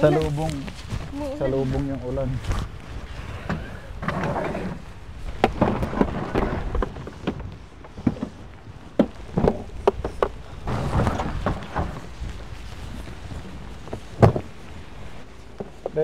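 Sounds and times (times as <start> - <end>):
low wind rumble: 0.0 - 16.0.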